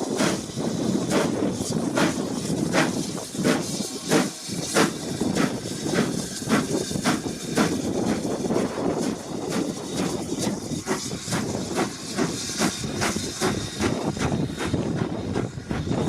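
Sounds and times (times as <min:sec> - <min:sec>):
steam hissing: 0:00.0 - 0:16.0
steam locomotive exhaust beats: 0:00.0 - 0:16.0.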